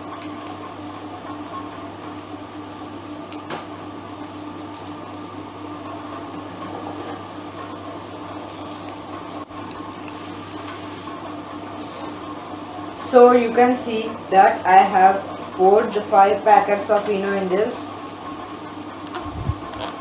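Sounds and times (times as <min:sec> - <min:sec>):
electrical hum with hiss: 0:00.0 - 0:20.0.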